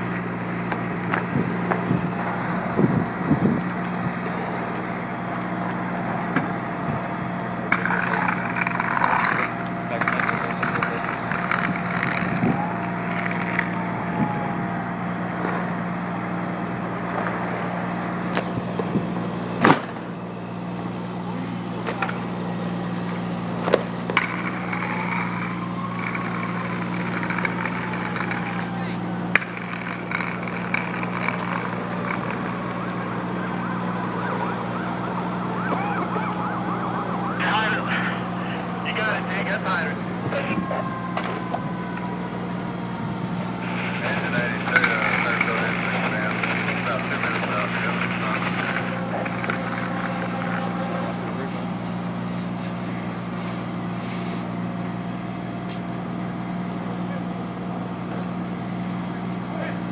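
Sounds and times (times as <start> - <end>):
low engine hum: 0.0 - 59.9
emergency siren yelping: 0.1 - 19.5, 20.1 - 54.0.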